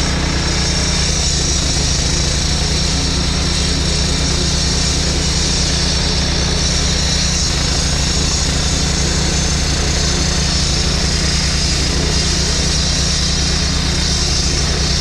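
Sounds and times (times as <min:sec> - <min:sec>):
machine engine running: 0:00.0 - 0:15.0.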